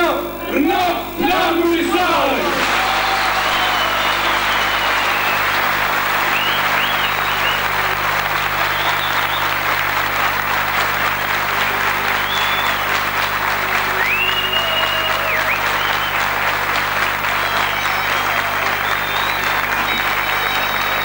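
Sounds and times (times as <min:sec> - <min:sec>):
audience applauding: 0:02.2 - 0:21.0.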